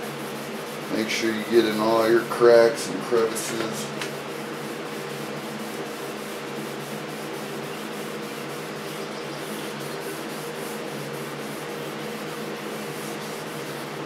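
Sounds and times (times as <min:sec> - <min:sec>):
sandpaper scratching: 0:00.0 - 0:14.0.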